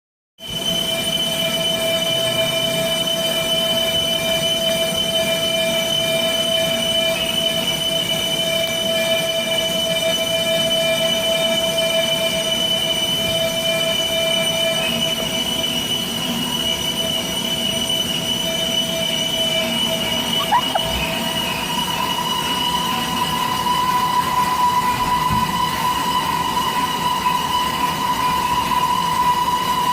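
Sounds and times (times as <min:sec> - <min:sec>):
lathe tool squealing on metal: 0:00.4 - 0:29.9.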